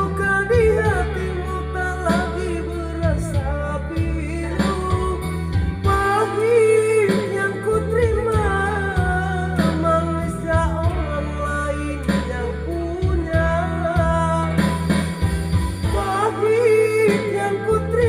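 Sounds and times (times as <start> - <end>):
instrumental accompaniment with bass: 0.0 - 18.0
person singing: 0.0 - 18.0.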